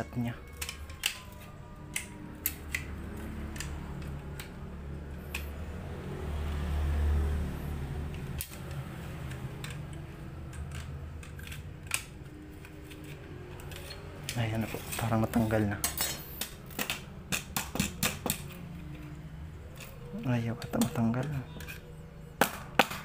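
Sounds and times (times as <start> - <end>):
metal tool clicking and scraping: 0.4 - 5.7, 8.1 - 22.1.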